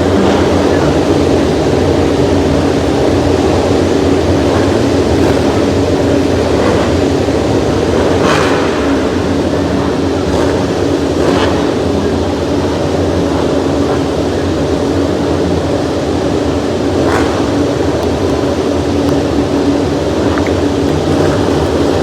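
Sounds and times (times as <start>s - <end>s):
racing motorcycle engines: 0.0s - 22.0s.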